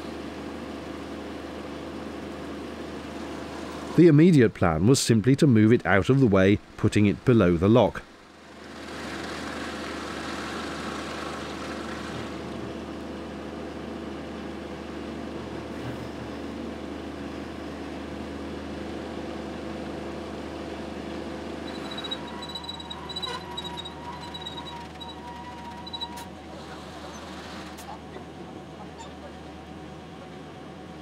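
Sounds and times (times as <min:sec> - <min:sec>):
crane engine running under load: 0:00.0 - 0:04.0, 0:08.1 - 0:31.0.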